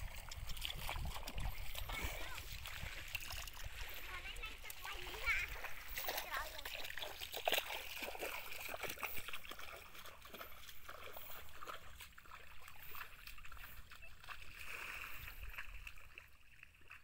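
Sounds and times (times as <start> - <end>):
footsteps splashing through water: 0.0 - 17.0.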